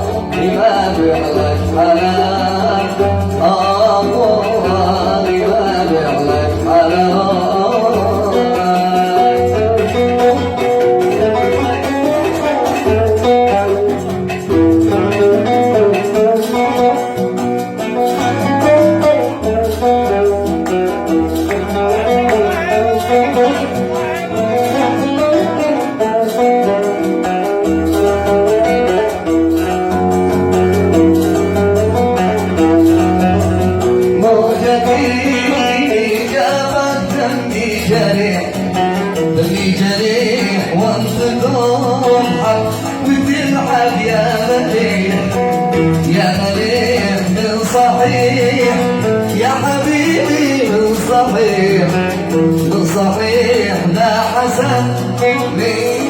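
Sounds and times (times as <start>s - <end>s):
oud playing fast melody: 0.0s - 56.0s.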